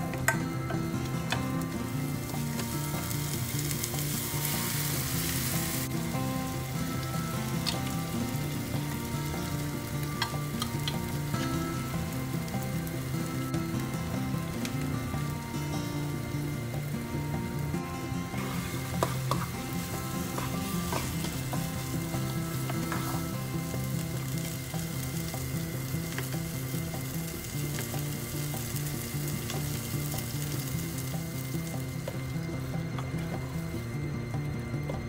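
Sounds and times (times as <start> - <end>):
background music: 0.0 - 35.0
chicken sizzling in a pot: 0.0 - 35.0.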